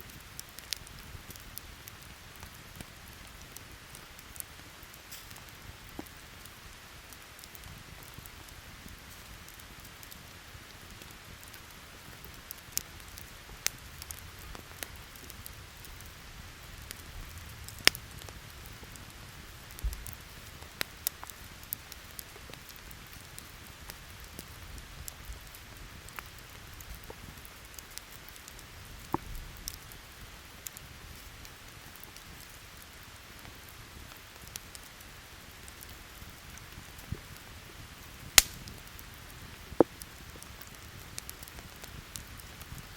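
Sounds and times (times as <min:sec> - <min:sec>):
campfire crackling and popping: 0:00.0 - 0:42.9
rain hiss: 0:00.0 - 0:42.9.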